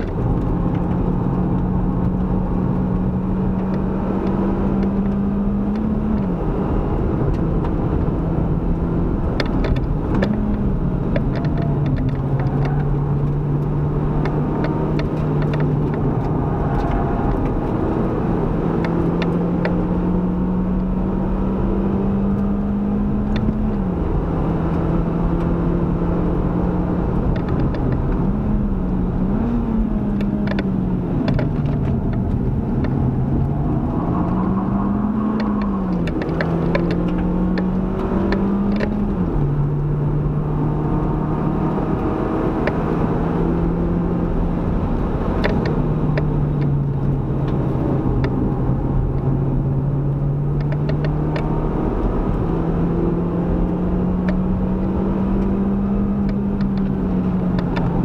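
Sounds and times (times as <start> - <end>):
car engine under load: 0.0 - 58.0
tyre and wind noise: 0.0 - 58.0.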